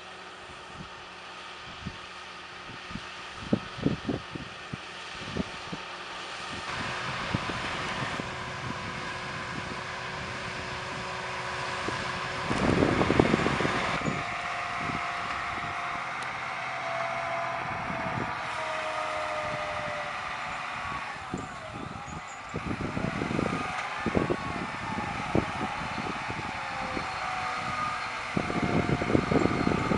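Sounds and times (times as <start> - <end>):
slowly falling whine: 0.0 - 29.9
tractor diesel engine running: 0.0 - 29.9.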